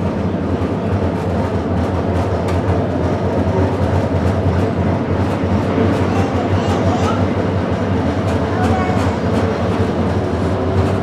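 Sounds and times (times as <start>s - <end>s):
streetcar rumbling on rails: 0.0s - 11.0s.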